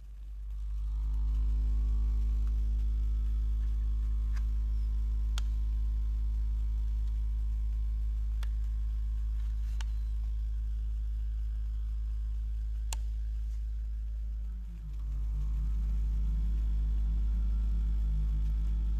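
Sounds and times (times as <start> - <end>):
small engine low hum: 0.0 - 18.9.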